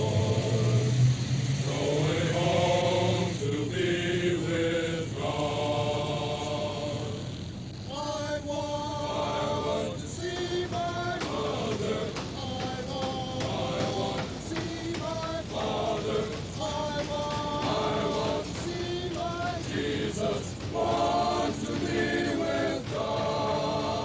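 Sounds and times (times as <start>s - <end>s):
chanting voices: 0.0s - 24.0s.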